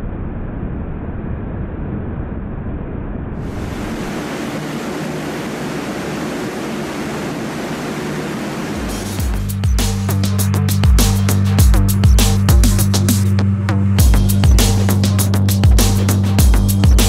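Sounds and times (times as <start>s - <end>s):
hovercraft turbines rushing: 2.2s - 17.0s.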